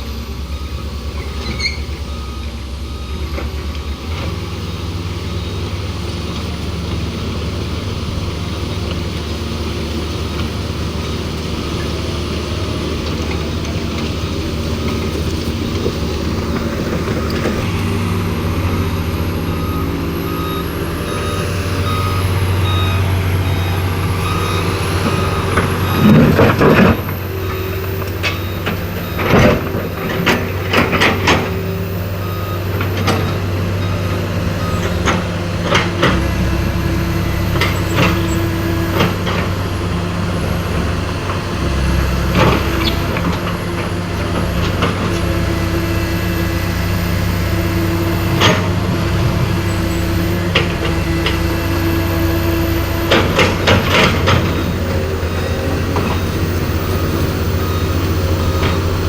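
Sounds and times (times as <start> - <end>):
diesel machinery and trucks running: 0.0 - 59.0.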